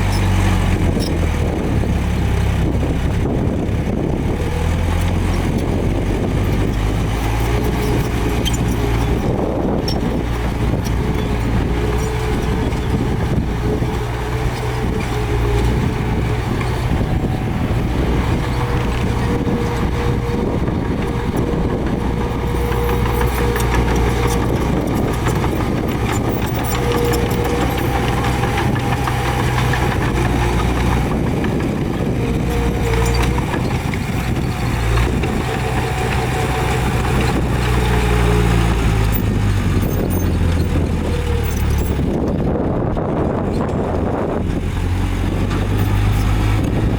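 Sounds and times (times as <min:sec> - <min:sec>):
diesel engine droning: 0:00.0 - 0:46.9
high engine whine: 0:00.0 - 0:46.9.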